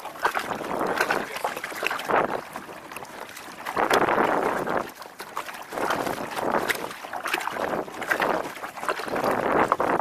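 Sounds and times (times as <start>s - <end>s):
waves slapping against kayak hull: 0.0s - 10.0s.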